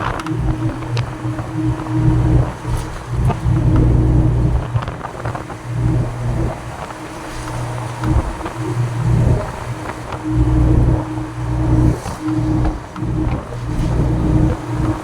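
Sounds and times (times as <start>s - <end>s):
truck engine drone: 0.0s - 6.7s, 7.3s - 15.0s.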